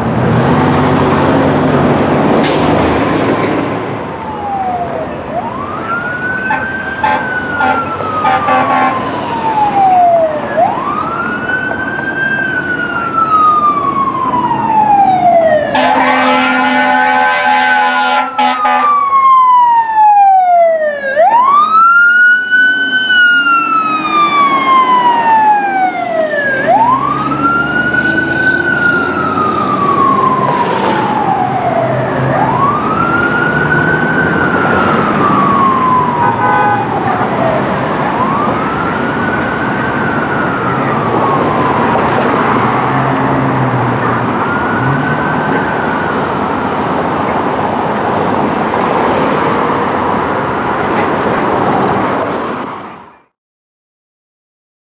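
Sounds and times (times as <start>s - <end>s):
fire engine siren wailing: 0.0s - 53.3s.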